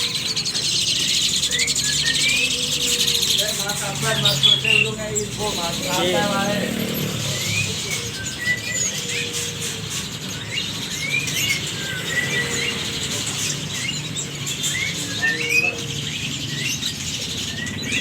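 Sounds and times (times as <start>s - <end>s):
young starlings chirping: 0.0s - 18.0s.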